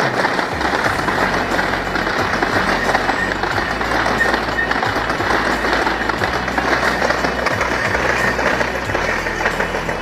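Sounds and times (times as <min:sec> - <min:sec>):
background music: 0:00.0 - 0:10.0
low mechanical rumble: 0:00.0 - 0:10.0.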